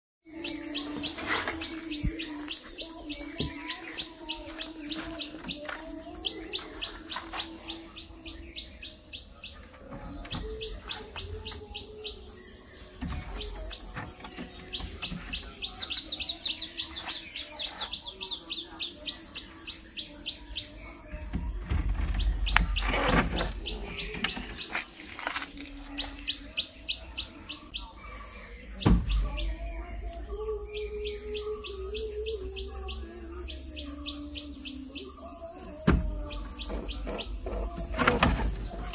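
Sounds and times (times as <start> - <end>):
small bird chirping: 0.3 - 38.9.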